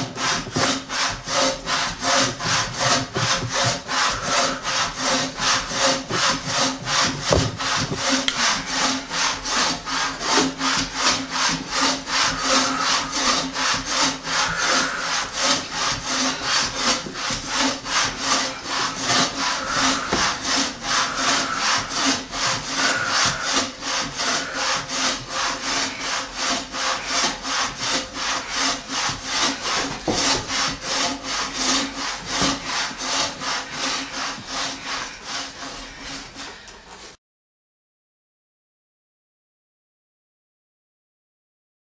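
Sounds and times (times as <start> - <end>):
hand saw cutting wood: 0.0 - 37.2.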